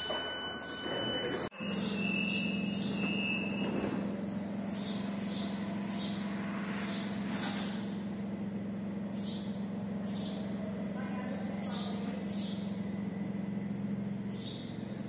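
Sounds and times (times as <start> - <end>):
train electrical hum: 0.0 - 15.0.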